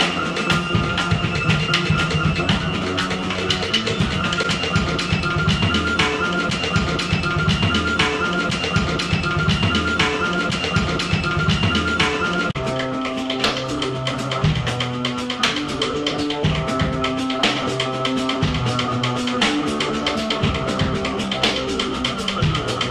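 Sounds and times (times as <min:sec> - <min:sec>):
electronic keyboard notes: 0:00.0 - 0:22.9
pounding drum beat: 0:00.0 - 0:22.9.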